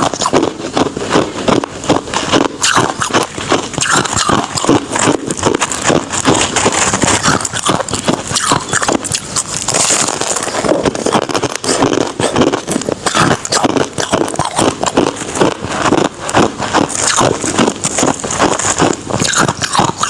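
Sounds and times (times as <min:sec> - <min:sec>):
ice crunching while chewed: 0:00.0 - 0:20.0.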